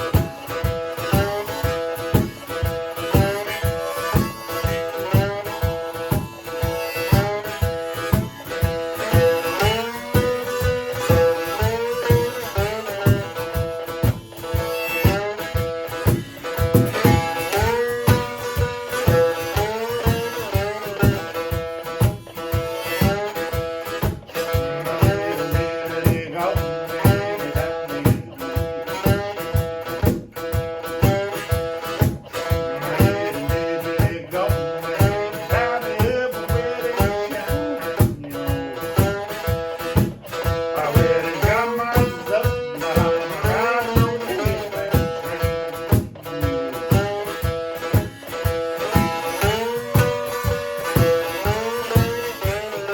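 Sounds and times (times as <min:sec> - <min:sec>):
cajon beat: 0:00.0 - 0:52.9
plucked guitar with pitch bends: 0:00.0 - 0:52.9.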